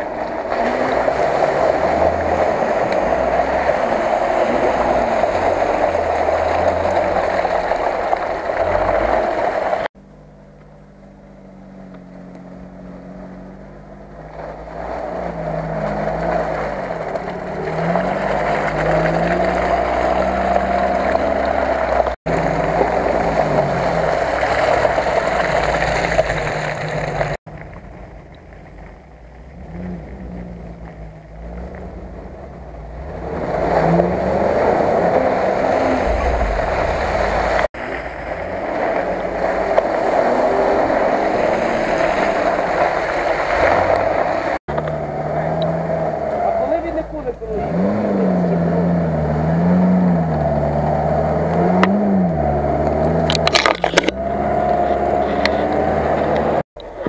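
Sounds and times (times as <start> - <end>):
off-road engines revving: 0.0 - 57.0.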